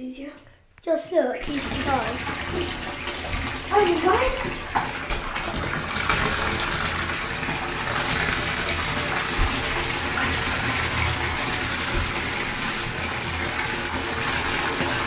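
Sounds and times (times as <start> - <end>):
water pouring into a bathtub: 1.4 - 15.0
water running from a tap: 1.4 - 15.0.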